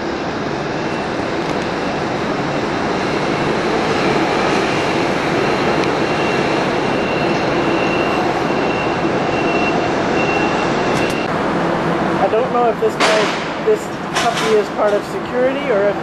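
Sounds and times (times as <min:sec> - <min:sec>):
machinery rumble and hiss: 0:00.0 - 0:16.0.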